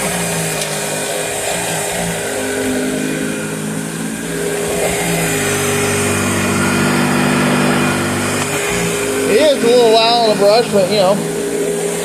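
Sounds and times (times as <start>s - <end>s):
upright vacuum cleaner running: 0.0s - 12.0s.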